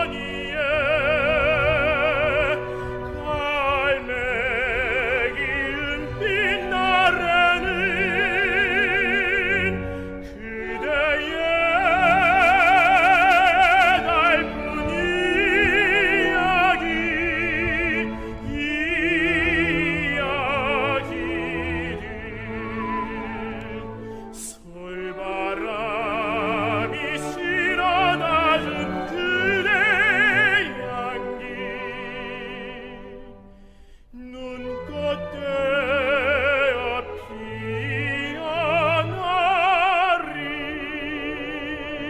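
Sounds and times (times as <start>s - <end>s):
operatic voice singing: 0.0s - 33.2s, 34.1s - 42.0s
classical accompaniment: 0.0s - 42.0s.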